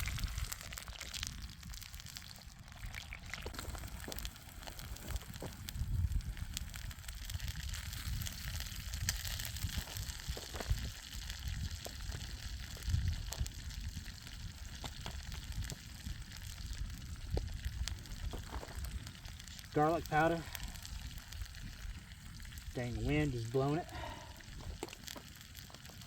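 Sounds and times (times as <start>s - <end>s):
chicken sizzling in a pan: 0.0s - 26.0s
wind rumbling on microphone: 0.0s - 26.0s.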